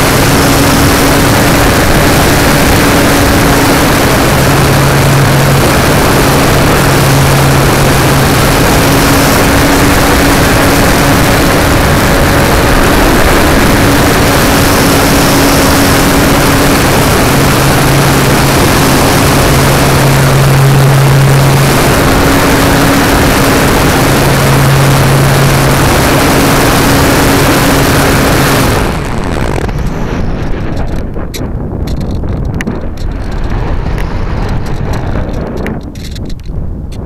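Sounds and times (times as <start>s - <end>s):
electric motor and propeller: 0.0s - 37.0s
wind rushing past airframe: 0.0s - 37.0s.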